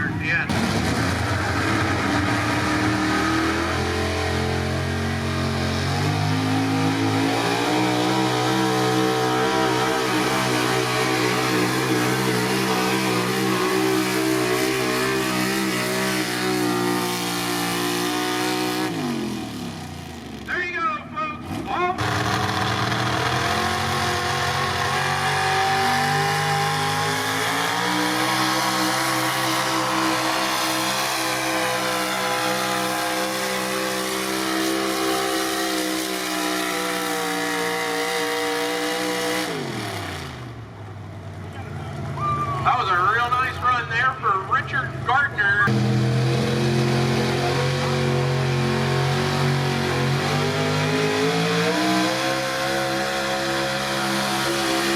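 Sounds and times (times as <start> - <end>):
truck engine running flat out: 0.0 - 20.5, 21.4 - 54.9.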